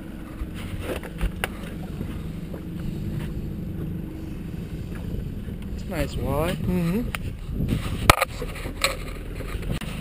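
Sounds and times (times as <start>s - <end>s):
boat motor running: 0.0s - 10.0s
wind on microphone: 0.4s - 10.0s.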